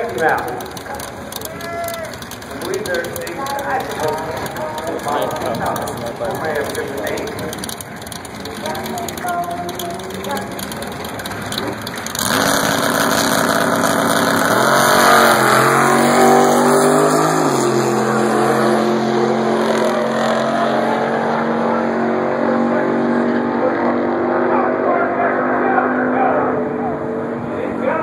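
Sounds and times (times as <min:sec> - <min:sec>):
drag race cars accelerating: 0:00.0 - 0:28.0.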